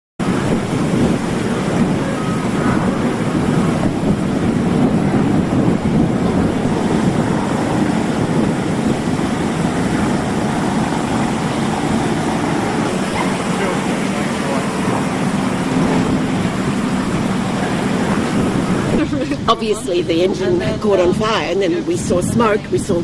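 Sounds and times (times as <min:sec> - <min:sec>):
boat engines rumbling: 0:00.2 - 0:23.0
water spraying from fire hoses: 0:00.2 - 0:23.0.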